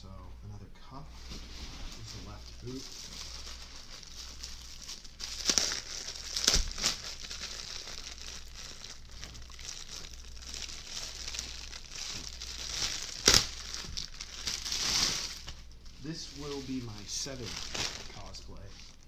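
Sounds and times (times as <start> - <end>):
plastic packaging crinkling: 1.8 - 19.0.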